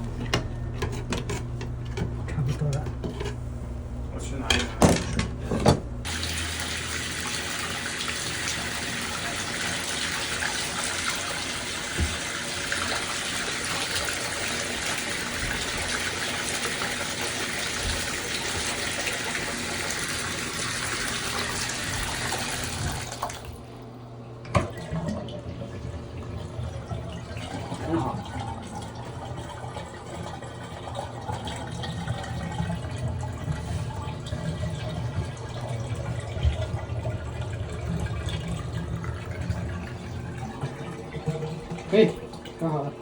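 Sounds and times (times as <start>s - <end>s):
water running: 0.0s - 43.0s.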